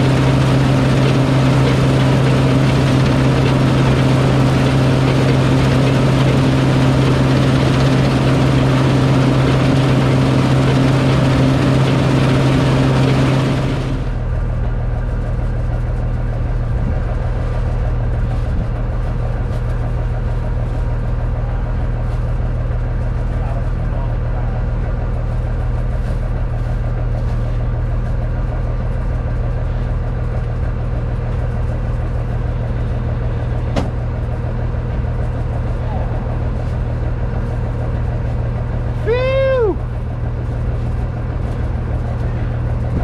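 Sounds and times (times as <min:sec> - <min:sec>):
dense mechanical rush: 0:00.0 - 0:26.8, 0:29.0 - 0:43.0
harvester engine running: 0:00.0 - 0:43.0.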